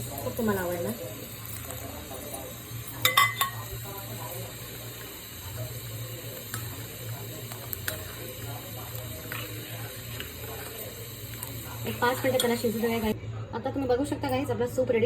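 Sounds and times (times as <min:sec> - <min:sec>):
soup simmering in pot: 0:00.0 - 0:13.2.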